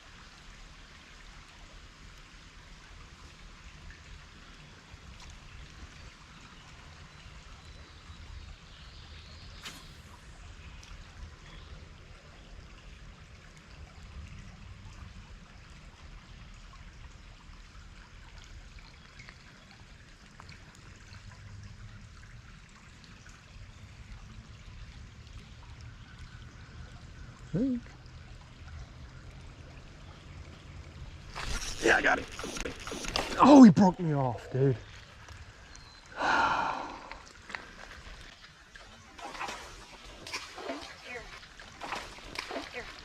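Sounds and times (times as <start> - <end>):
creek water running over shallows: 0.0 - 43.0.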